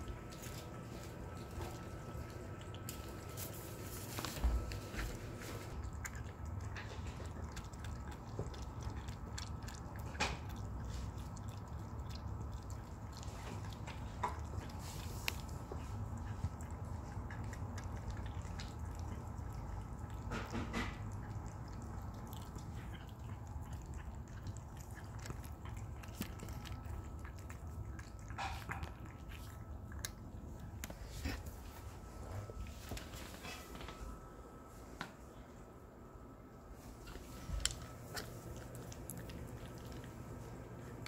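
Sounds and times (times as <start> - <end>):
cats chewing wet food: 0.0 - 34.2, 36.7 - 41.0.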